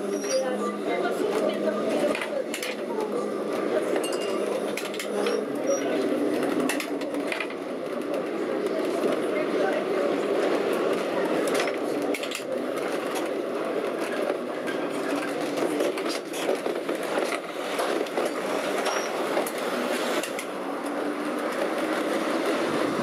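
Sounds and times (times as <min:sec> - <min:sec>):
tram wheels and motor: 0:00.0 - 0:23.0.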